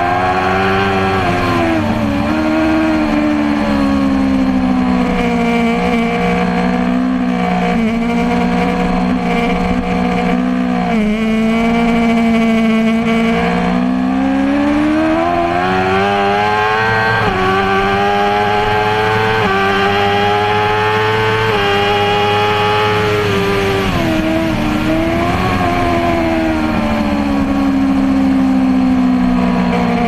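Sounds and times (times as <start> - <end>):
motorcycle engine at high revs: 0.0 - 30.0.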